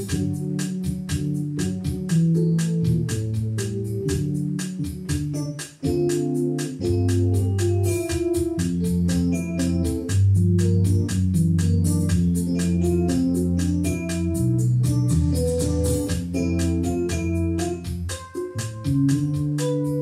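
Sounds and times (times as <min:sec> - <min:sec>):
organ-voiced keyboard music: 0:00.0 - 0:20.0
steady ticking beat: 0:00.0 - 0:20.0.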